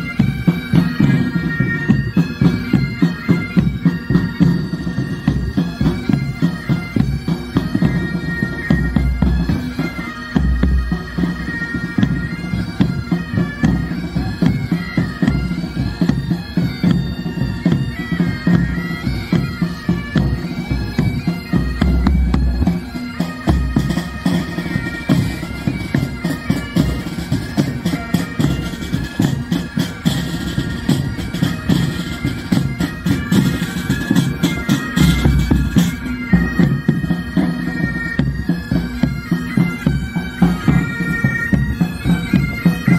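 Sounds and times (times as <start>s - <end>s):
bagpipes playing a march: 0.0s - 42.9s
drums beating: 0.1s - 42.9s.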